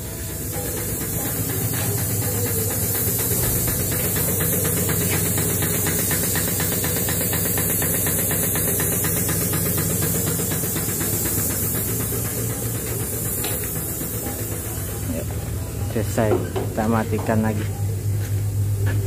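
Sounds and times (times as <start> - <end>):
grease pump running: 0.0 - 19.0.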